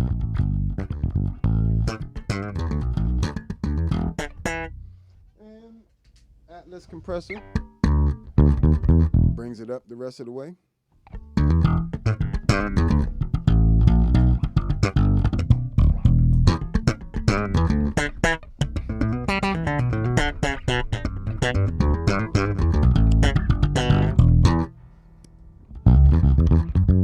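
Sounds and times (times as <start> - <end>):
electric bass guitar slapped notes: 0.0 - 4.8, 7.3 - 9.4, 11.1 - 24.8, 25.7 - 27.0.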